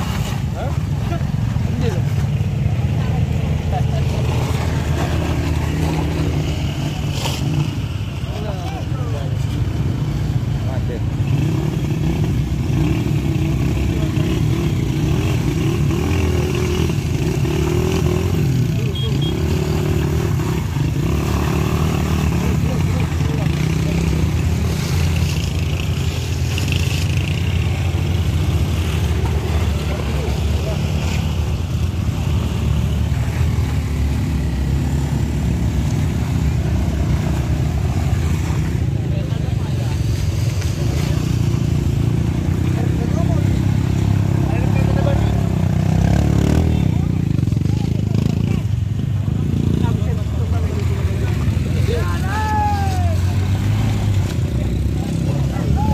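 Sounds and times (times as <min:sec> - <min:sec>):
motorcycle engines at low revs: 0:00.0 - 0:55.9.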